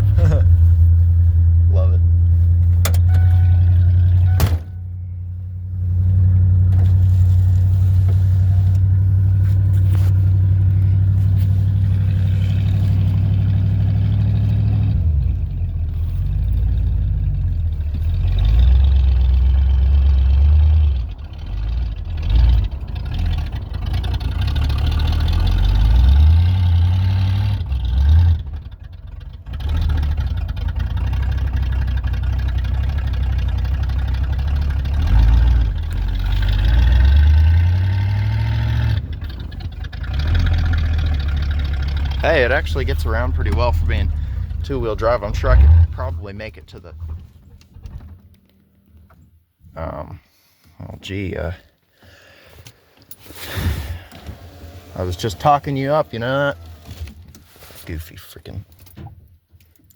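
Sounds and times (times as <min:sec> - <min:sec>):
truck engine revving: 0:00.0 - 0:47.8, 0:53.3 - 0:57.2.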